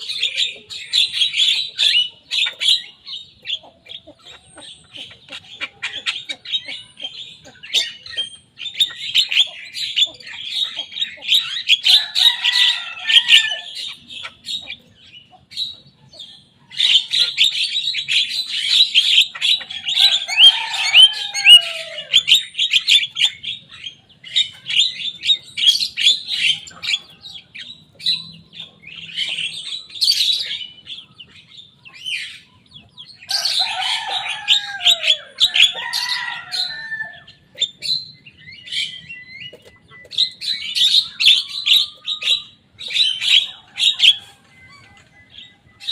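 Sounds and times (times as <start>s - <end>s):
myna bird chattering: 0.0s - 45.9s.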